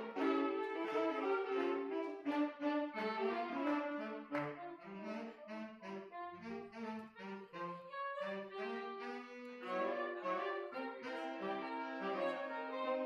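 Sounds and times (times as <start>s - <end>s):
saxophone quartet playing: 0.0s - 13.0s.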